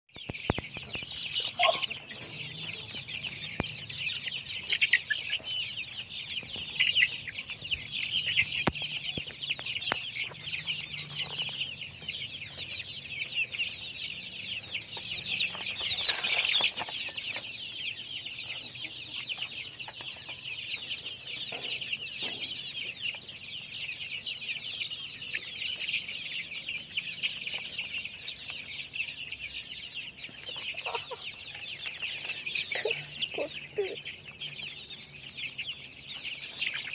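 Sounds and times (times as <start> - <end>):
chickens cheeping: 0.1 - 36.9.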